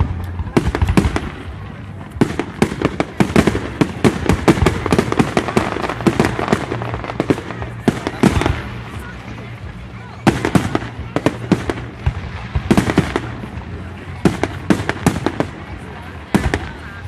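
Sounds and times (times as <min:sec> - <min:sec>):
fireworks bangs and crackle: 0:00.0 - 0:17.0.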